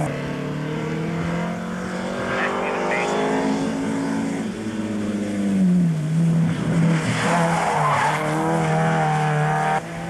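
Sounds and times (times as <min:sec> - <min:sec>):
rally car engine at high revs: 0:00.0 - 0:10.0.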